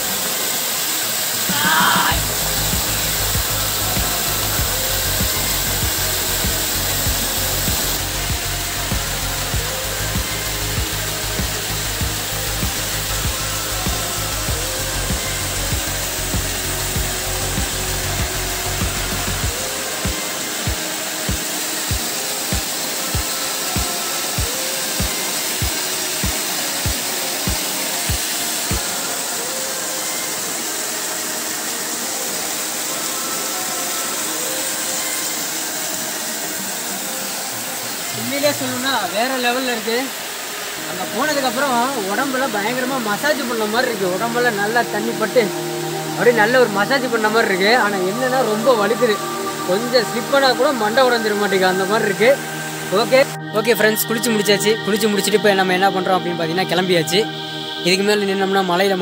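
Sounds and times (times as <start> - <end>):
waterfall pouring into pool: 0.0 - 53.3
background music: 0.0 - 59.0.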